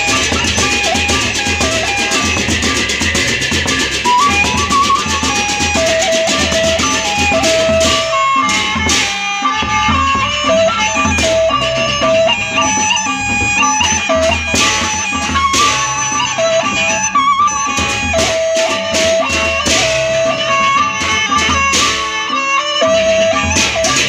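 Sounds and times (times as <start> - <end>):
bamboo flute melody: 0.0 - 24.0
large drums: 0.0 - 24.0.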